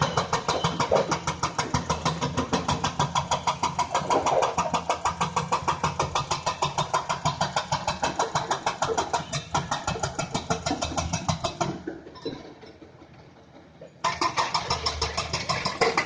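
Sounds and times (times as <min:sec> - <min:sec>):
excavator engine drone: 0:00.0 - 0:16.0
rapid mechanical clatter: 0:00.0 - 0:16.0.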